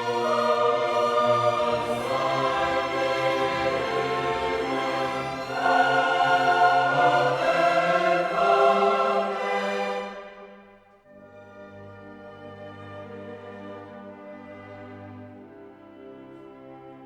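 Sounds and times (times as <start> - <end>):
orchestral music with choir: 0.0 - 17.0.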